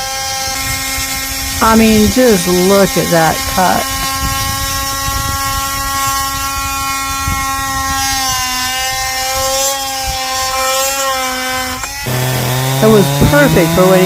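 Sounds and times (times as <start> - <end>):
chainsaw cutting a log: 0.0 - 14.0.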